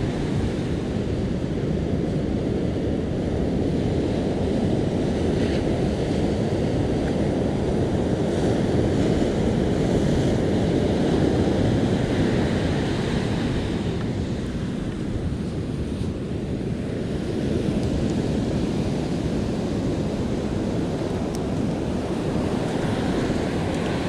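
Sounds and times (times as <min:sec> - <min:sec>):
ocean surf washing up beach: 0:00.0 - 0:24.0
wind blowing on microphone: 0:00.0 - 0:24.0.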